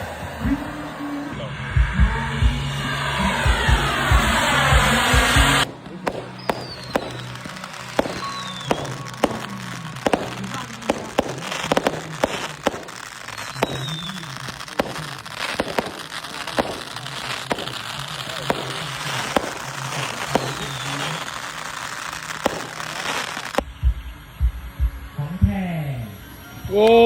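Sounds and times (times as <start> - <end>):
falling whistles: 0.6 - 24.1
fireworks popping and banging: 1.8 - 24.7.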